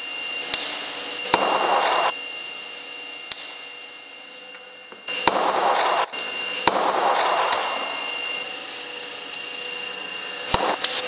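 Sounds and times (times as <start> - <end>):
steady high whine: 0.0 - 11.0.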